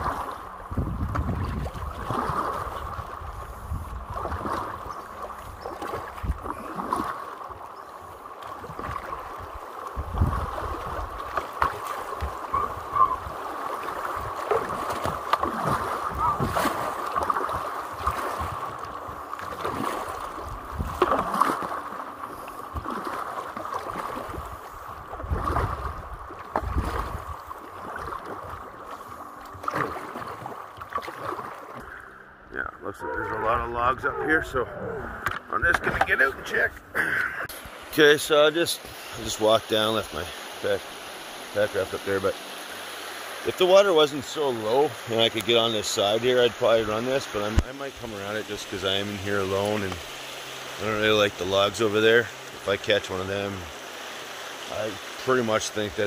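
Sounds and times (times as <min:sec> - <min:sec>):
paddle splashing: 0:00.0 - 0:56.0
river current rushing: 0:00.0 - 0:56.0.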